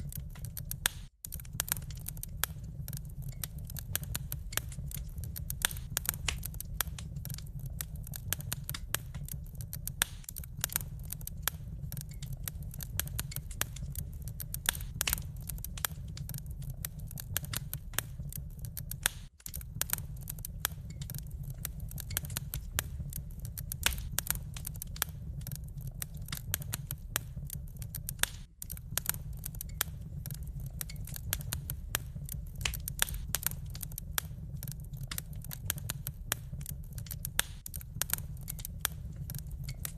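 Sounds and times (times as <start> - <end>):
low rumble: 0.0 - 39.9
wood fire crackling: 0.0 - 39.9.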